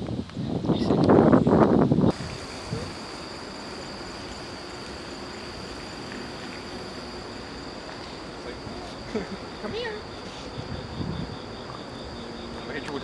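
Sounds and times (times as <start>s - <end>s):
insects trilling: 0.0s - 13.0s
rough outdoor noise burst: 0.0s - 13.0s.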